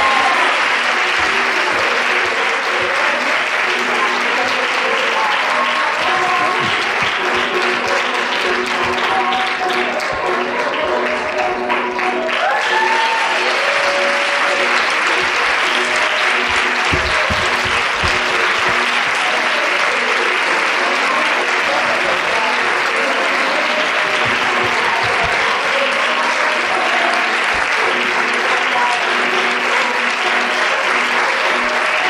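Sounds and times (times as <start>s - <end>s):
audience applauding: 0.0s - 32.0s
music playing: 0.0s - 32.0s.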